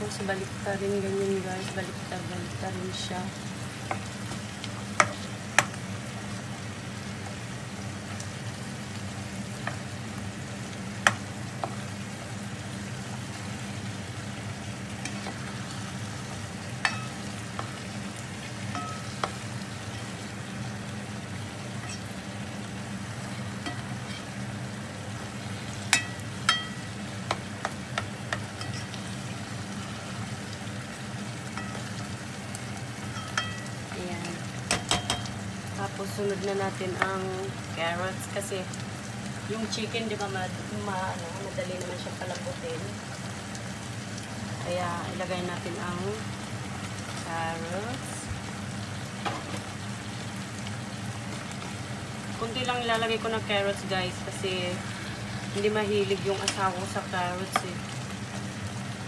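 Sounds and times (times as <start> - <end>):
chicken sizzling in pot: 0.0 - 59.0.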